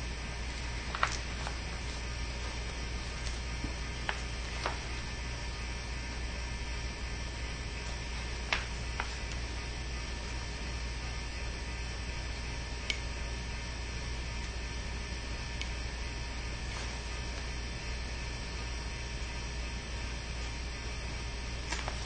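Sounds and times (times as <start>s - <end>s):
low mains hum: 0.0s - 22.0s.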